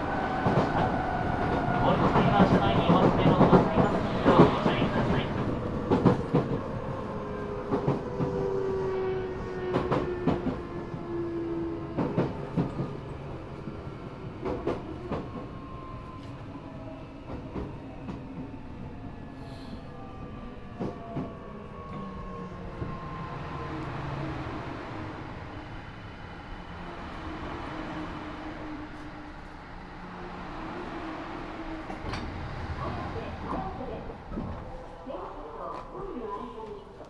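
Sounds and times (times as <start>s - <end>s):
subway car running noise: 0.0s - 37.0s.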